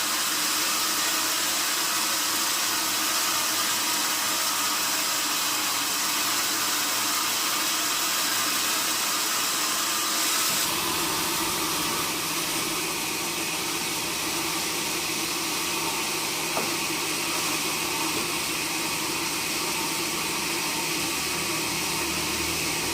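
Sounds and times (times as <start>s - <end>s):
sawmill machinery running: 0.0s - 22.9s.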